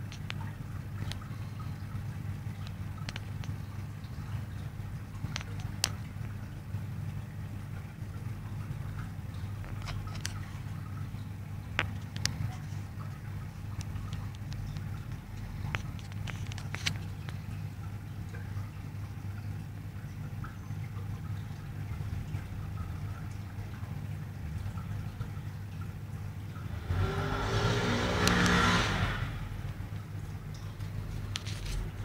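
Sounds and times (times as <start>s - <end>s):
aquarium equipment humming: 0.0s - 32.0s.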